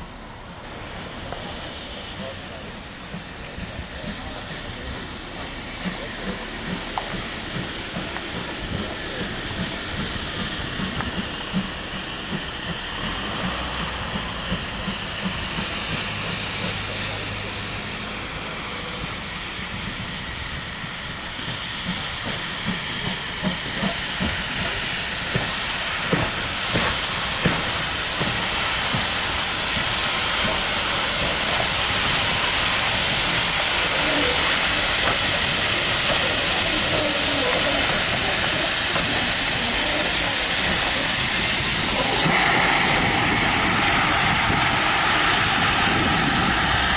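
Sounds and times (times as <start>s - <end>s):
steam locomotive hissing: 0.0s - 46.9s
locomotive exhaust beats: 0.8s - 46.9s.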